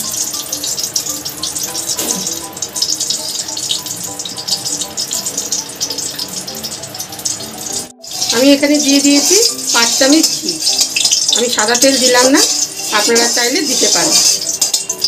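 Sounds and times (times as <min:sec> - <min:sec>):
background music: 0:00.0 - 0:15.0
ghee crackling and sizzling: 0:00.0 - 0:15.0.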